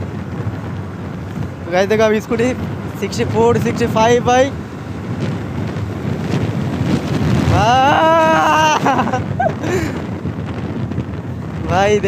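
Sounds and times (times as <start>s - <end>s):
road and engine noise: 0.0s - 12.0s
wind buffeting microphone: 0.0s - 12.0s.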